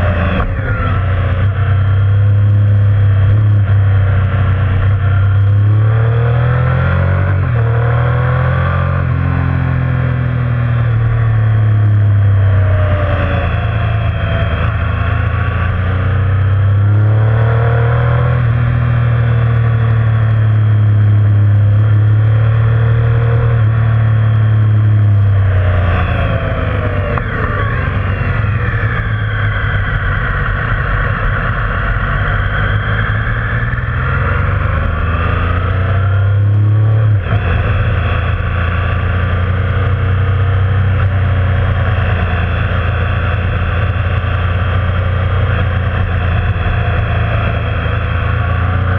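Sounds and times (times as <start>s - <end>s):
motorcycle engine revving: 0.0s - 48.9s
road and wind noise: 0.0s - 48.9s.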